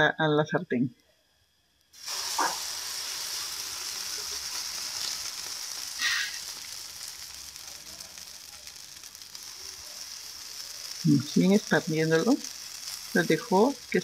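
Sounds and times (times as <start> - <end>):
batter sizzling in a frying pan: 1.1 - 14.0.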